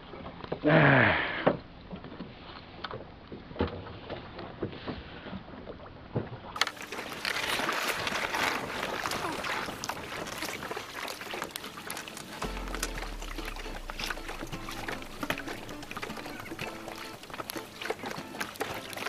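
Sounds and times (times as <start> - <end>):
water splashing against boat hull: 1.4 - 19.0.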